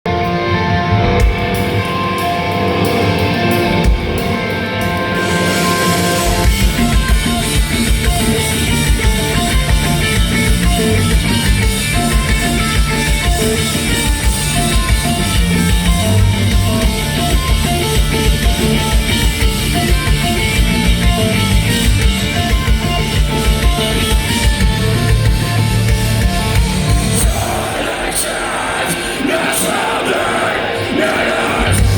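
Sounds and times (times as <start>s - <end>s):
distorted electric guitars: 0.1s - 31.9s.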